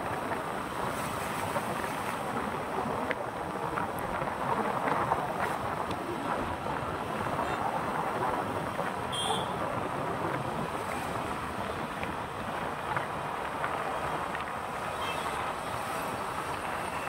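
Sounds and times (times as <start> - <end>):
rushing wind: 0.0 - 17.0
vehicle road noise: 0.0 - 17.0.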